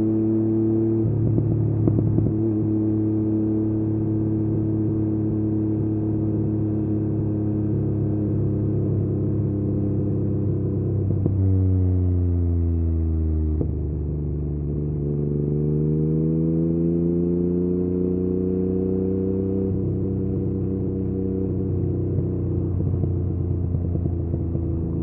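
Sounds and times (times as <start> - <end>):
motorcycle engine at light throttle: 0.0 - 25.0.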